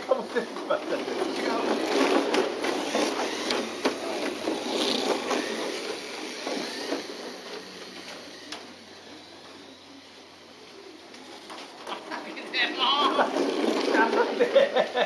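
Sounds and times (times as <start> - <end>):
toy car motors whirring: 0.0 - 15.0.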